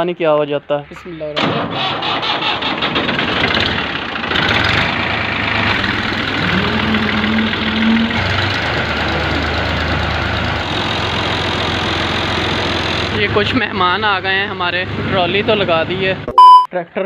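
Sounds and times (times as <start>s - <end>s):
tractor diesel engine running: 1.4s - 16.3s.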